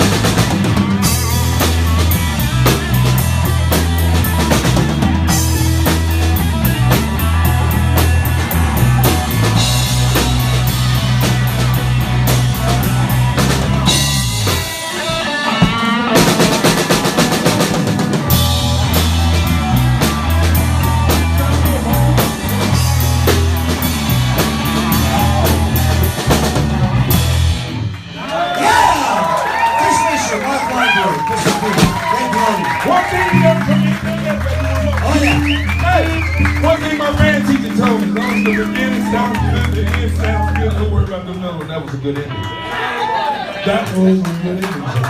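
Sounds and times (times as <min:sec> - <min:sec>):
electric guitar: 0:00.0 - 0:28.6, 0:32.7 - 0:45.0
drum kit: 0:00.0 - 0:41.9
bass guitar: 0:00.0 - 0:45.0.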